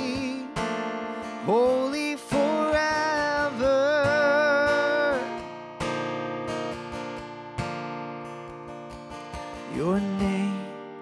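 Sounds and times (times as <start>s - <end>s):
acoustic guitar strums: 0.0s - 11.0s.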